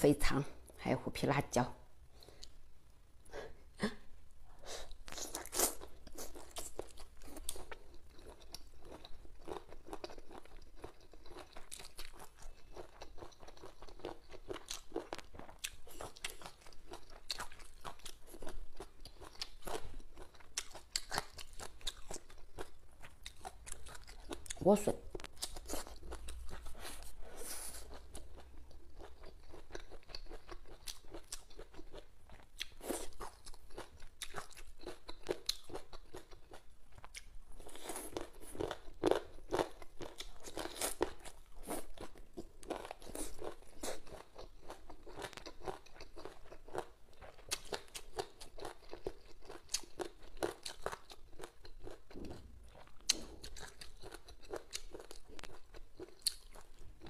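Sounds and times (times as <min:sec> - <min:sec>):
person chewing crunchy food: 0:04.6 - 0:57.0.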